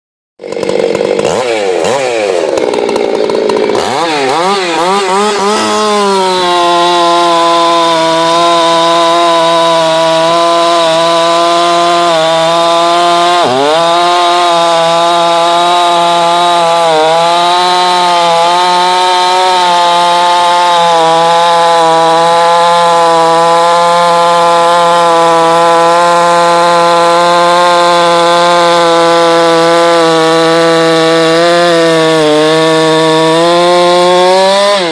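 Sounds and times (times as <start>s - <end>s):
chainsaw cutting wood: 0.4s - 34.9s.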